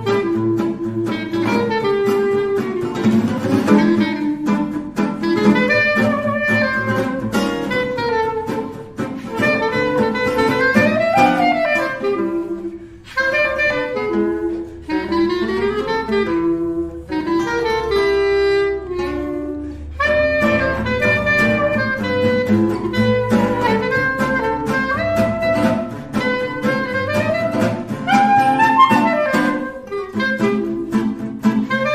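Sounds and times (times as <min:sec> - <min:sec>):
jazz music with saxophone: 0:00.0 - 0:31.9.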